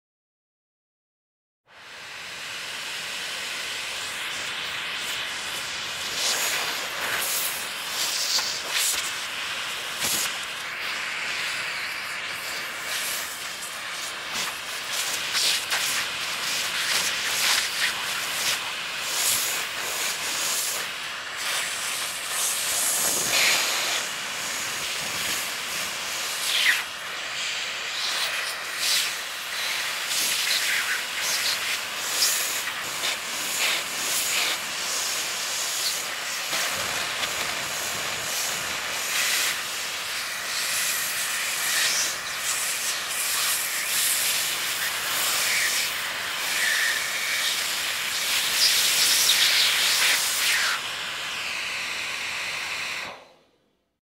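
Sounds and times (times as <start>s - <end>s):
vacuum cleaner running: 1.7s - 53.6s.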